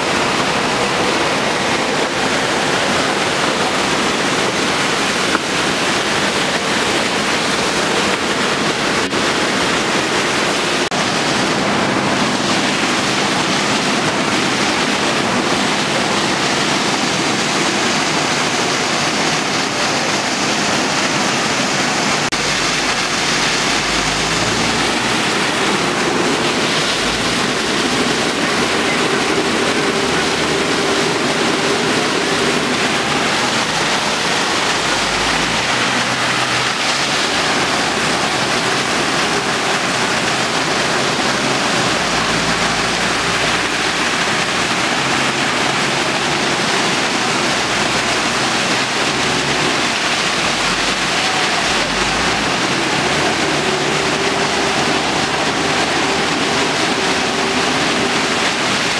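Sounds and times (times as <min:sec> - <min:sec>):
floodwater rushing: 0:00.0 - 0:58.9.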